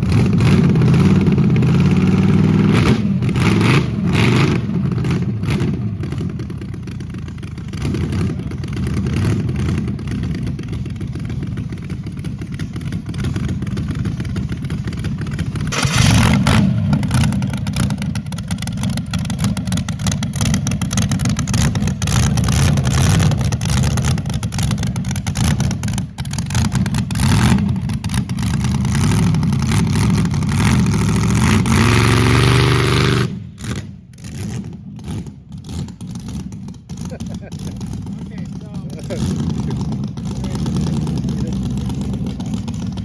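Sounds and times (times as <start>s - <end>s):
dragster engine choppy idle: 4.6s - 31.5s, 33.5s - 43.0s.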